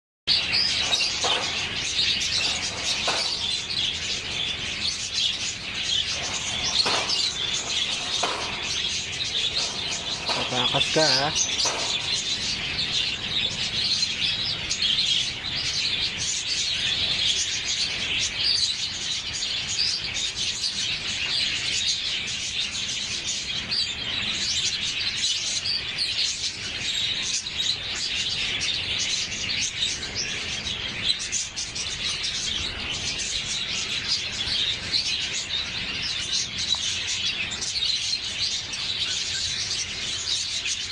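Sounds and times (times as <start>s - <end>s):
bird chirping: 0.3s - 40.9s.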